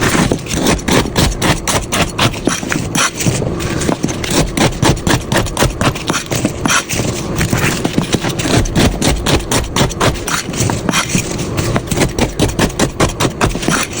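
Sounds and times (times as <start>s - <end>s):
knife chopping on a board: 0.0s - 14.0s.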